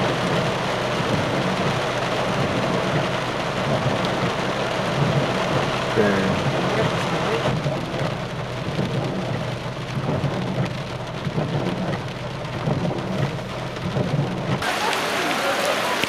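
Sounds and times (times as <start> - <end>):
low rumble: 0.0 - 14.6
heavy rain pouring: 0.0 - 16.0.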